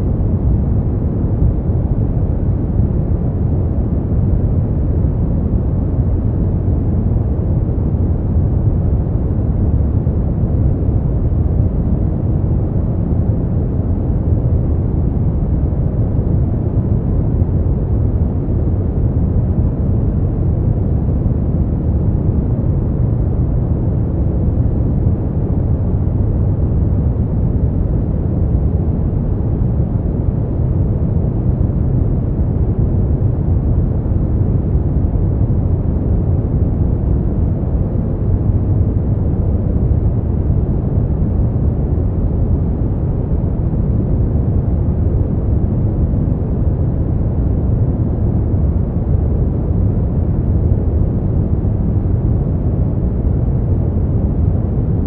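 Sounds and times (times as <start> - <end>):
brown noise rumbling hiss: 0.0 - 55.0.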